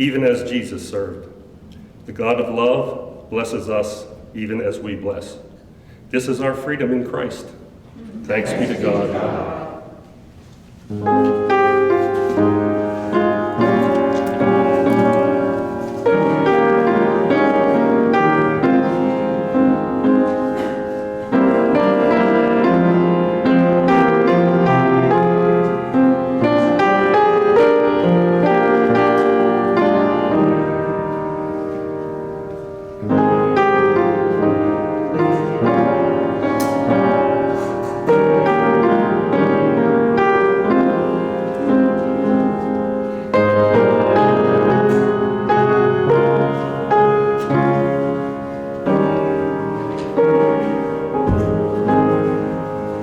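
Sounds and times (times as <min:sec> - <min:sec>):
piano slow sustained chords: 0:08.2 - 0:53.0.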